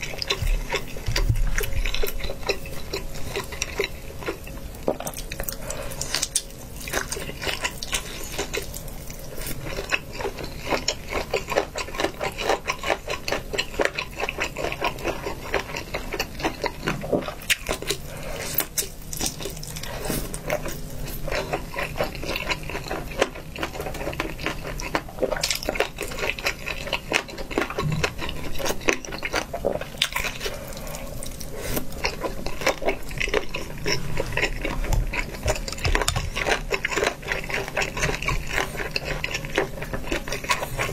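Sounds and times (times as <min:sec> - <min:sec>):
wet chewing and slurping: 0:00.0 - 0:40.9.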